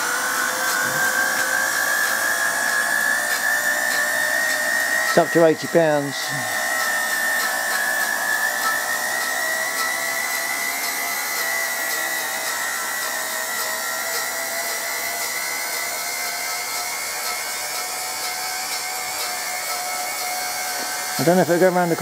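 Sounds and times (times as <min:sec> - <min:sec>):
high turbine whine: 0:00.0 - 0:22.0
steam hissing: 0:00.0 - 0:22.0.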